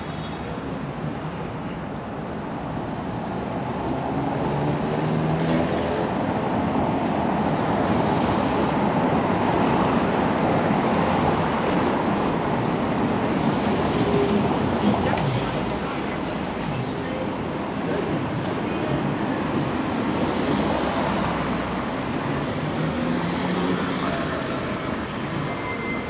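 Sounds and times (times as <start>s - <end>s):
vehicles passing: 0.0s - 26.0s.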